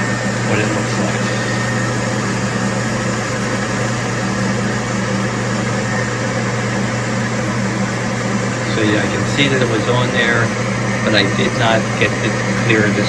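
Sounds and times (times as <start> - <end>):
conveyor dryer humming: 0.0 - 13.0.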